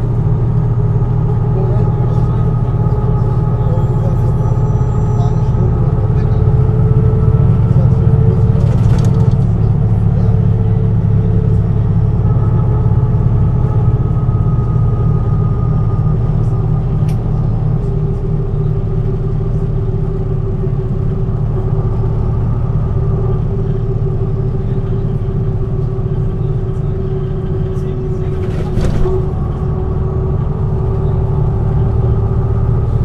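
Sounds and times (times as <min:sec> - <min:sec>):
diesel bus engine rumbling: 0:00.0 - 0:33.0.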